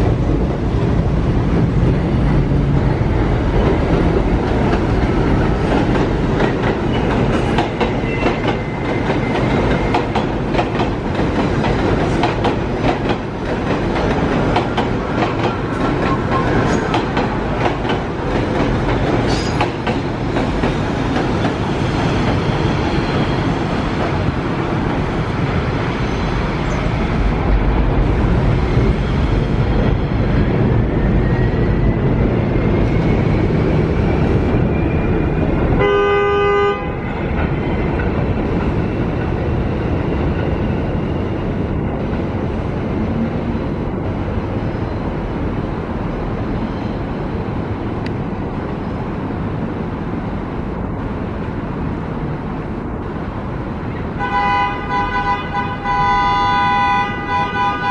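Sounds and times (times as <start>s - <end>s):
subway train rumbling on tracks: 0.0s - 57.9s.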